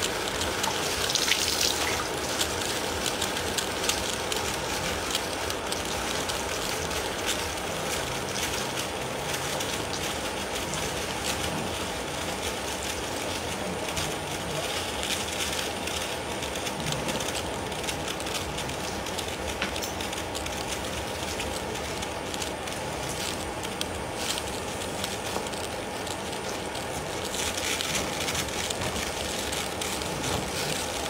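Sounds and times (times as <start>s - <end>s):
faint crackles: 0.0s - 31.0s.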